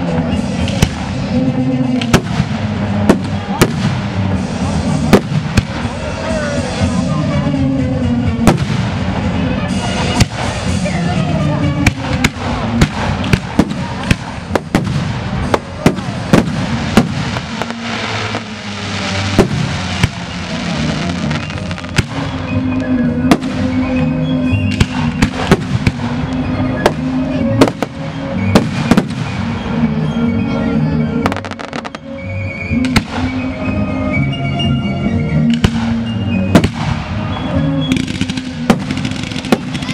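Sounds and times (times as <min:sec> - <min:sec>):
fireworks launching and bursting: 0:00.0 - 0:07.0, 0:08.4 - 0:11.0, 0:11.8 - 0:29.8, 0:31.2 - 0:32.0, 0:32.8 - 0:33.5, 0:35.5 - 0:39.9
music with low bass line: 0:00.0 - 0:39.9.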